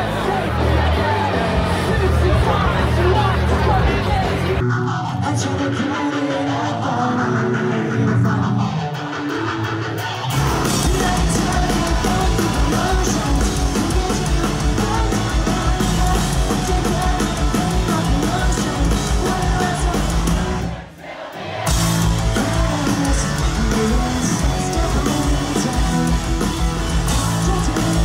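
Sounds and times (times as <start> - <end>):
live rock band playing: 0.0 - 5.5, 8.4 - 20.8, 21.6 - 28.0
person singing and yelling: 0.0 - 8.6, 10.6 - 20.8, 21.9 - 28.0.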